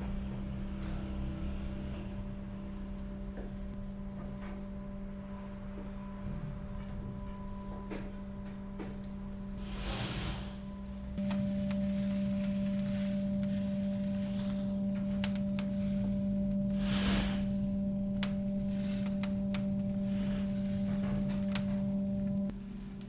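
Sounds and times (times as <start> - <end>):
electrical machine hum: 0.0 - 23.0.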